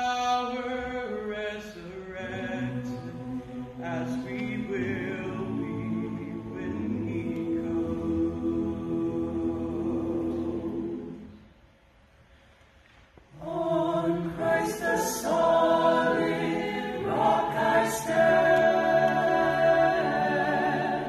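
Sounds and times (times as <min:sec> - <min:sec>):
a cappella choir singing: 0:00.4 - 0:11.6, 0:13.3 - 0:21.0.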